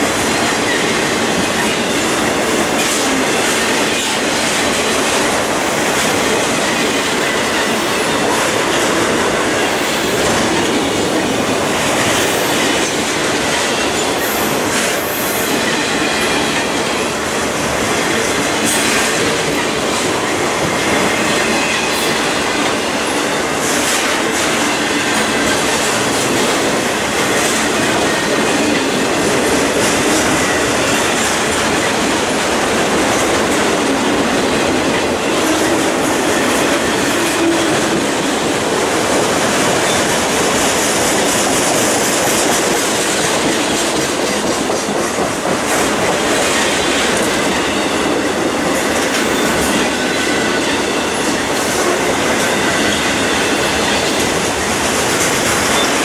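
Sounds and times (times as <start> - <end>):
steel wheels rolling on rails: 0.0 - 56.0.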